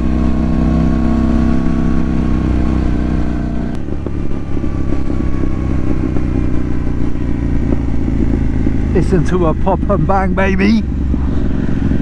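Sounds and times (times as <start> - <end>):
exhaust popping and crackling: 0.0 - 12.0
motorcycle engine: 0.0 - 12.0.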